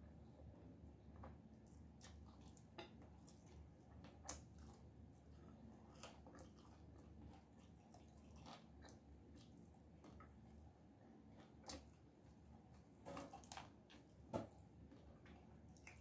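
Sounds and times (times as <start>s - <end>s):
low steady hum: 0.0s - 16.0s
soft eating clicks and smacks: 1.1s - 16.0s.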